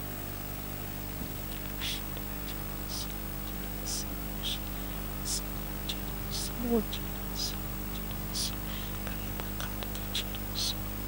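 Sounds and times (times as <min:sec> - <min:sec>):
electrical hum: 0:00.0 - 0:11.0
person whispering into microphone: 0:01.4 - 0:10.8.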